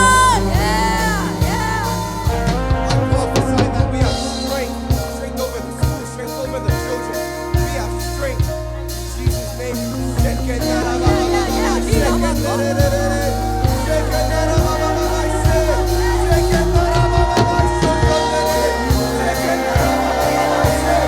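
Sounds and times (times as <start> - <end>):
drum kit beating: 0.0 - 21.0
person singing: 0.0 - 21.0
sustained chords: 0.0 - 21.0.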